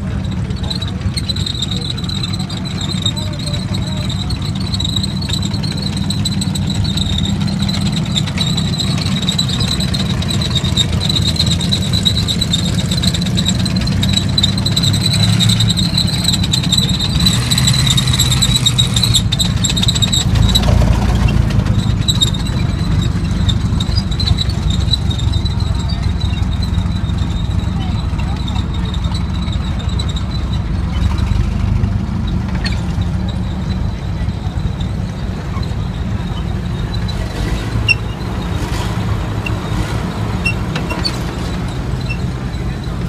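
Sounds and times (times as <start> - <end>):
high steady squeal: 0.0 - 43.0
low engine rumble: 0.0 - 43.0.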